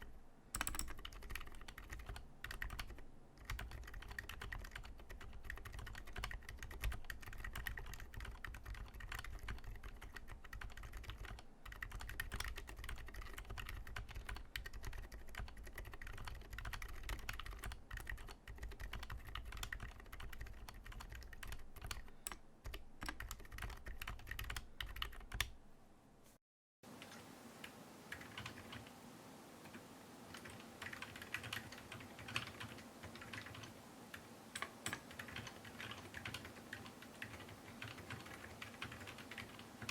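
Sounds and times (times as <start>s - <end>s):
typing on mechanical keyboard: 0.0s - 25.5s, 28.1s - 28.9s, 29.7s - 39.9s.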